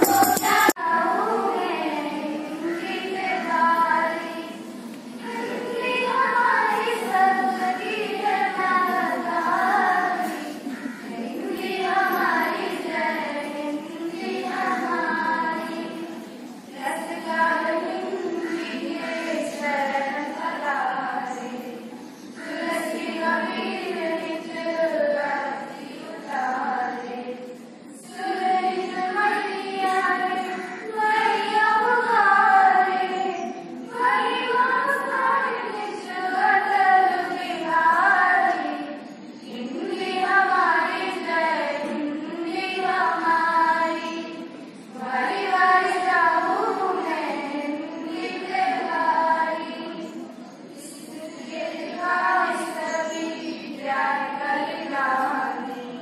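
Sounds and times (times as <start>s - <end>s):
children singing in unison: 0.0s - 56.0s.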